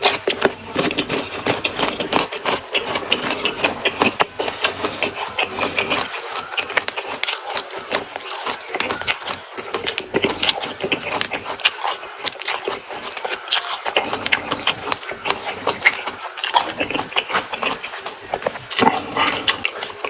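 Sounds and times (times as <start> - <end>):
chewing crunchy vegetables: 0.0 - 20.0
mouth clicks: 0.0 - 20.0.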